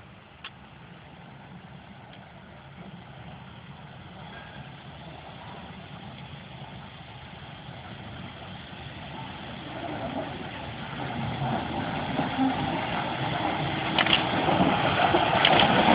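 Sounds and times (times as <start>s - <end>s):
low engine rumble: 0.0s - 15.9s.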